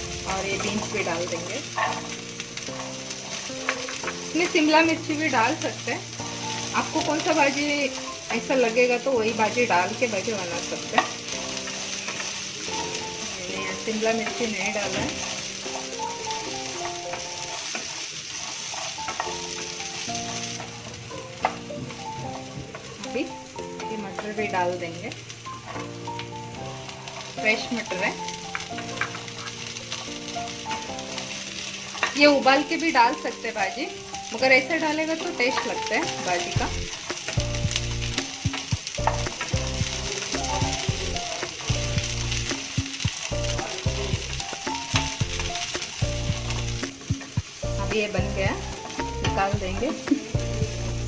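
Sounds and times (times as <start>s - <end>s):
soft background music: 0.0s - 51.0s
vegetables sizzling in pan: 0.0s - 51.0s.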